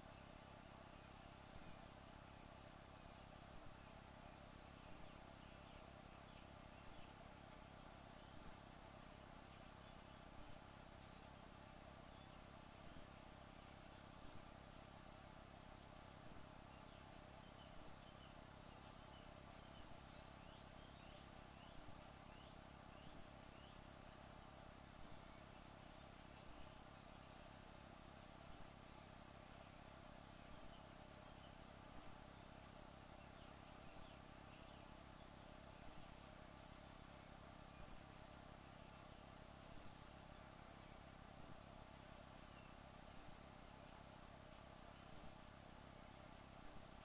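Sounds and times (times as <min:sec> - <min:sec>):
low hiss: 0:00.0 - 0:47.0.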